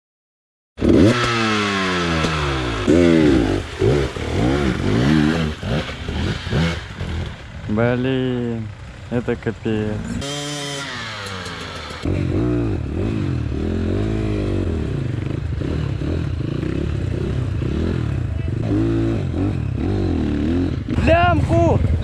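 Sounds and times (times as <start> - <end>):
motorcycle engine revving: 0.8 - 22.0.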